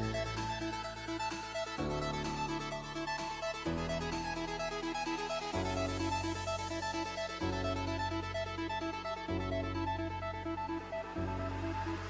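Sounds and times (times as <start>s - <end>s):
electronic music with keyboard melody: 0.0s - 12.0s.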